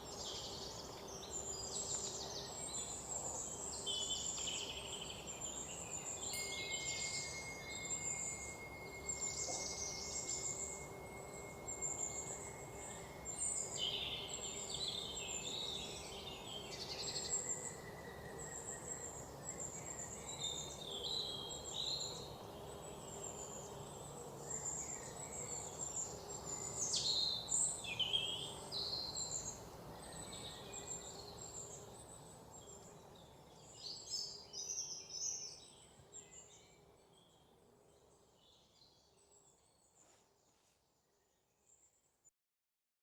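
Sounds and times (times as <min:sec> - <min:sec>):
birds chirping: 0:00.0 - 0:37.5
outdoor background noise: 0:00.0 - 0:42.3.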